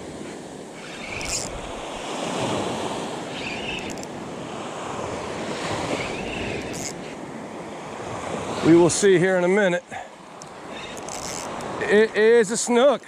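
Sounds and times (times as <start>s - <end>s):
surf washing along beach: 0.0s - 13.0s.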